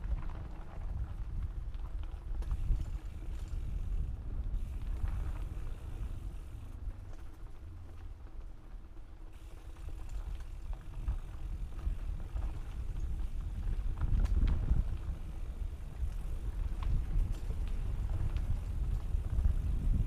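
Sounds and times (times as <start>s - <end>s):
bike rattling: 0.0s - 20.0s.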